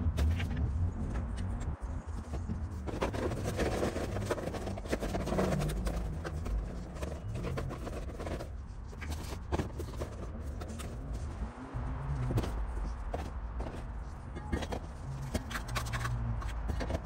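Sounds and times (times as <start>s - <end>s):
cable rustling: 0.2s - 17.0s
scraping on foam: 2.1s - 17.0s.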